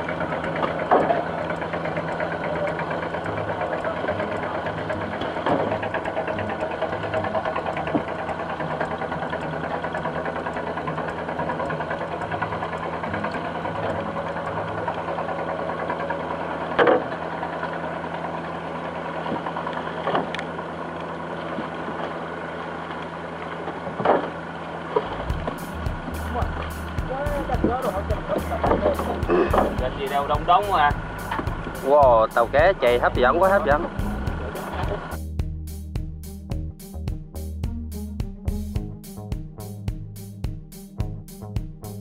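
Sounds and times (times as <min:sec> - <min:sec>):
boat diesel engine running: 0:00.0 - 0:42.0.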